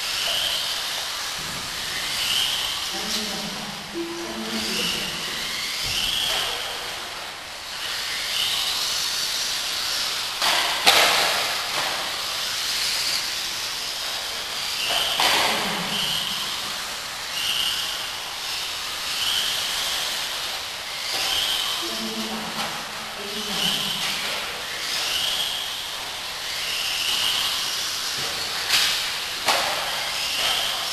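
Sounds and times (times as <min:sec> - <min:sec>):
high motor whines: 0:00.0 - 0:10.8, 0:11.6 - 0:30.9
rc buggy motors hissing: 0:00.0 - 0:30.9.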